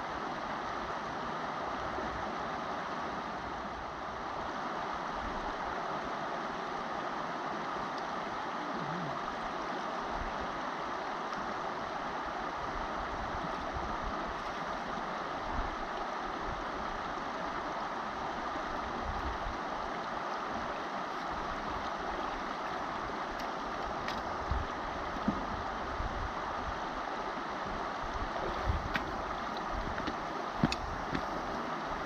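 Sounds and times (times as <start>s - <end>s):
river rushing over stones: 0.0s - 32.0s.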